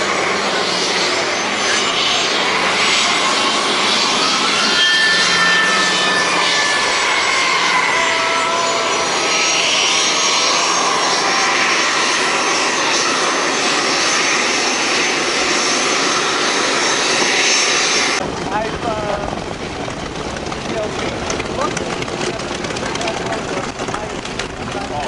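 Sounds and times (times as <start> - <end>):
piston aircraft engines droning: 0.0 - 25.0.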